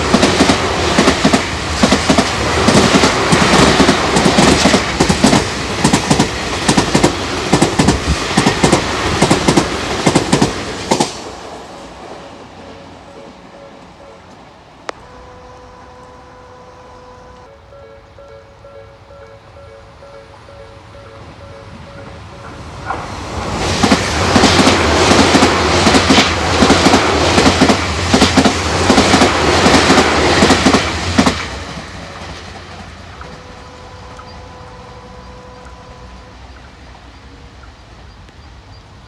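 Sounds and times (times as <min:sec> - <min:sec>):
electric train wheels clattering: 0:00.0 - 0:38.4.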